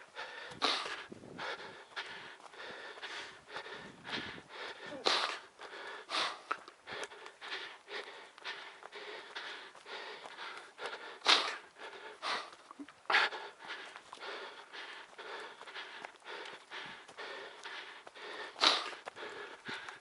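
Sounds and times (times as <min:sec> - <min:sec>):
person breathing hard while running: 0:00.0 - 0:20.0.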